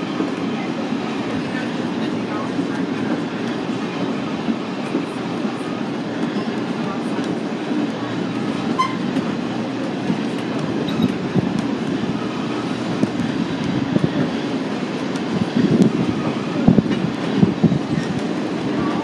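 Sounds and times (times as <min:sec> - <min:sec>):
train car rumbling on track: 0:00.0 - 0:19.0.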